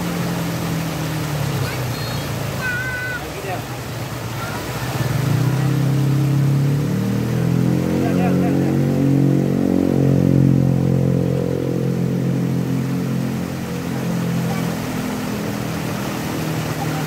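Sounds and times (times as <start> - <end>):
engine humming: 0.0 - 17.0
water rushing over weir: 0.0 - 17.0.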